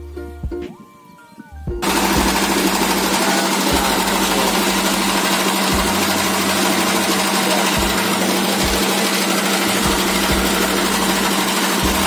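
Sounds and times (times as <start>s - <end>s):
small engine humming: 1.8s - 12.0s.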